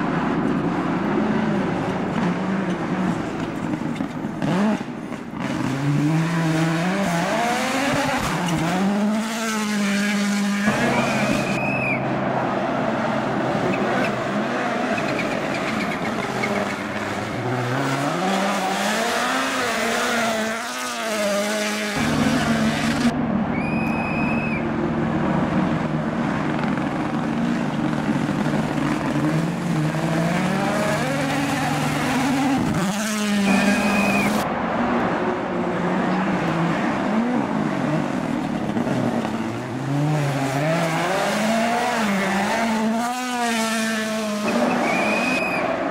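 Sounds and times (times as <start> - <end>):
rally car engines revving past: 0.0 - 45.9.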